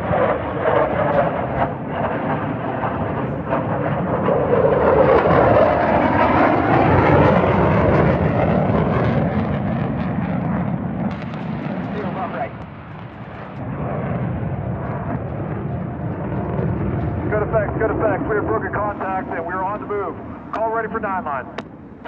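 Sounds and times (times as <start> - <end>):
fighter jet engine roar: 0.0 - 22.0.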